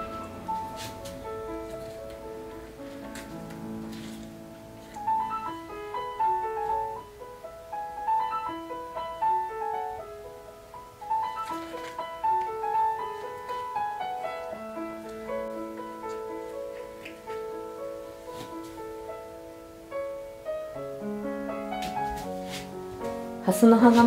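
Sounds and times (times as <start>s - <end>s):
solo piano melody: 0.0s - 24.0s.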